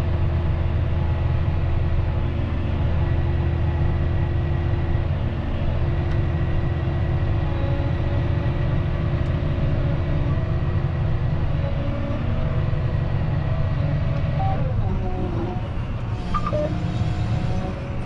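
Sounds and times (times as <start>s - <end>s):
tractor diesel engine drone: 0.0s - 18.0s.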